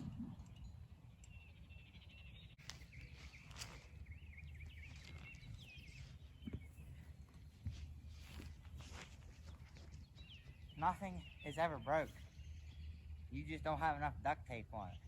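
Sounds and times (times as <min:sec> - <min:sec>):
bird warbling song: 0:00.0 - 0:15.0
low outdoor rumble: 0:02.6 - 0:15.0.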